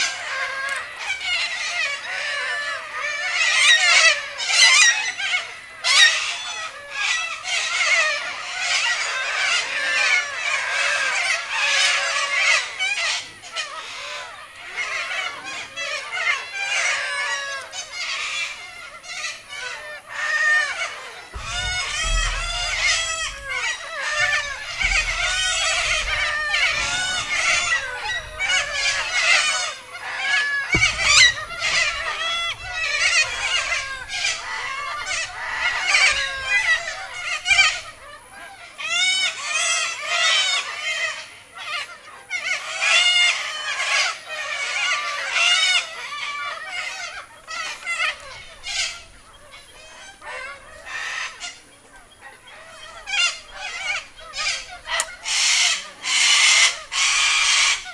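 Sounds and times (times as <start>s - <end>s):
cockatoos squawking: 0.0s - 57.9s.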